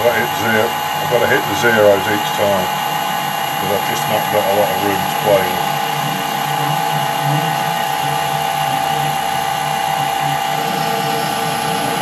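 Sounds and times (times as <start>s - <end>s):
metal lathe whining: 0.0s - 12.0s.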